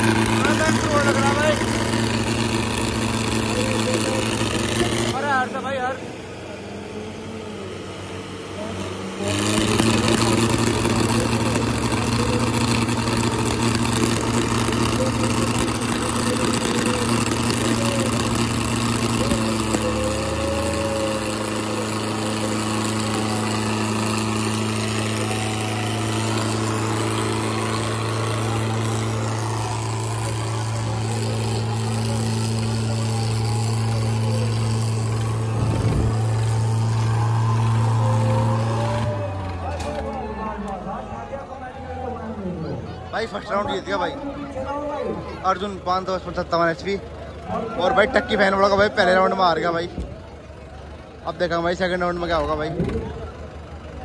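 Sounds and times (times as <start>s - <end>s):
tractor engines droning: 0.0s - 54.0s.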